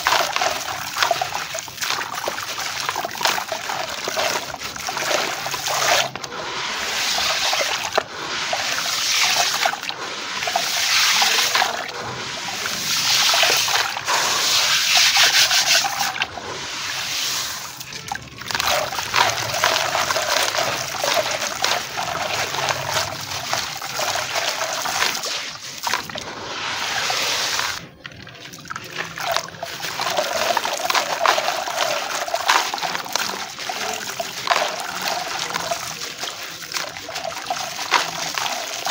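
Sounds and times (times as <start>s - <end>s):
stone grit pouring into water: 0.0s - 38.9s.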